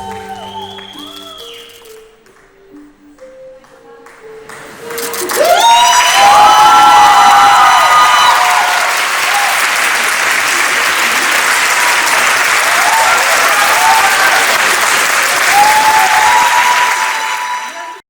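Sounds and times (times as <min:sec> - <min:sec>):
audience applauding: 0:00.0 - 0:02.5, 0:04.0 - 0:18.0.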